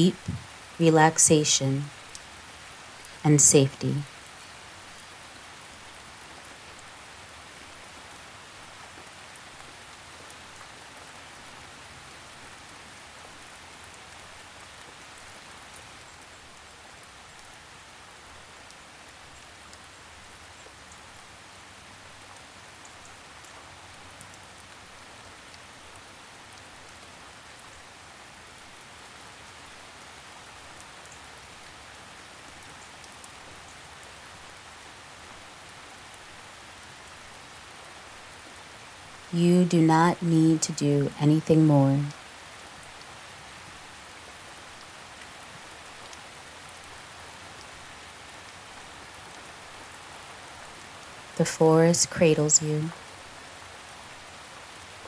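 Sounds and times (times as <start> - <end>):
raindrops pattering on leaves: 1.9 - 3.2, 4.1 - 39.4, 42.1 - 51.4, 52.8 - 55.0.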